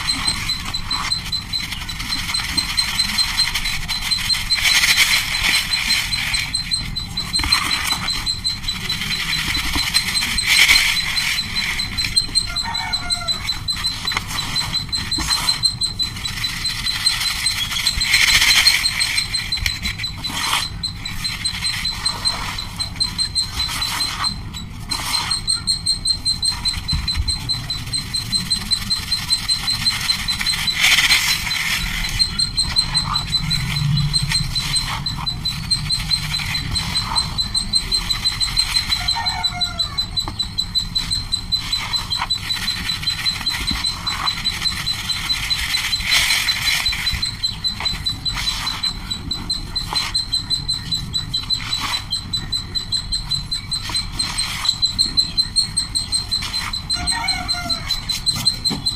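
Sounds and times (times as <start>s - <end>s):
bird trilling: 0.0s - 58.9s.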